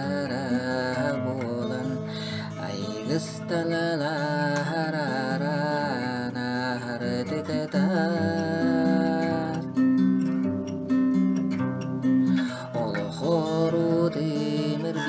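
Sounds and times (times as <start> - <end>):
plucked acoustic guitar: 0.0 - 15.0
strummed guitar: 0.0 - 15.0.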